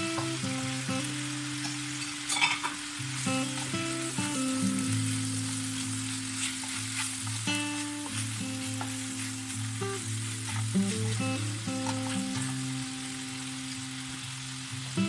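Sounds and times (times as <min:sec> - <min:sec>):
food sizzling in a hot pan: 0:00.0 - 0:15.0.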